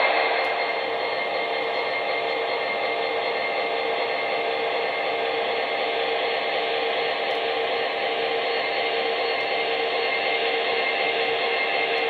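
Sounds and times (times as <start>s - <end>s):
diesel locomotive whirring from small speaker: 0.0s - 12.0s.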